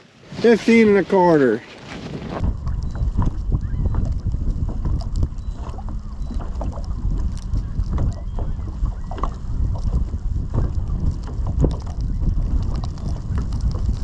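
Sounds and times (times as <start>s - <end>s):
wind buffeting microphone: 0.2s - 14.0s
knocks and clicks on boat: 2.3s - 14.0s.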